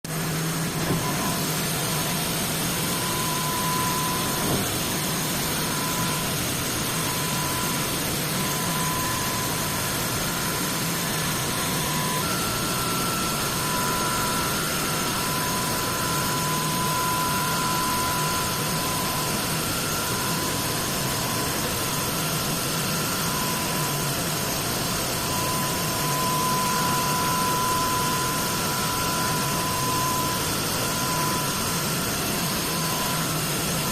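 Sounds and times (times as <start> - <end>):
machine running with mechanical hum: 0.1 - 33.9
thin high whine: 0.1 - 33.9.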